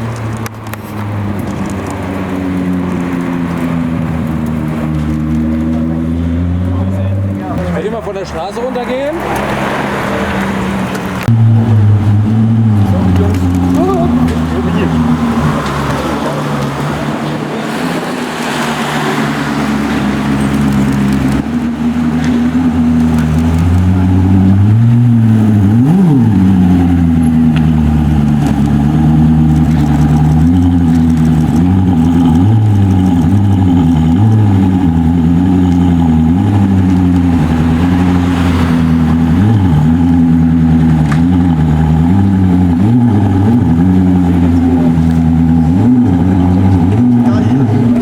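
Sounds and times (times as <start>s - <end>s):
car engine running at low revs: 0.0s - 48.0s.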